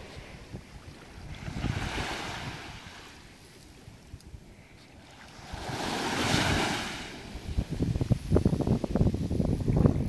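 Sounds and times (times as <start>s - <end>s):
waves washing: 0.0s - 8.9s
wind buffeting microphone: 0.0s - 10.0s.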